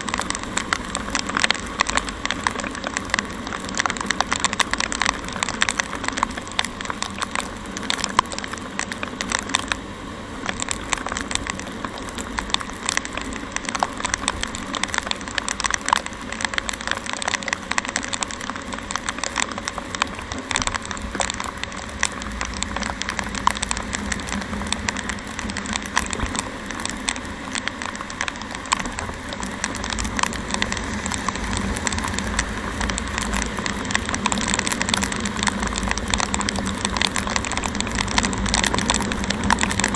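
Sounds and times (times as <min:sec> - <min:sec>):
rain pattering on microphone: 0:00.0 - 0:39.9.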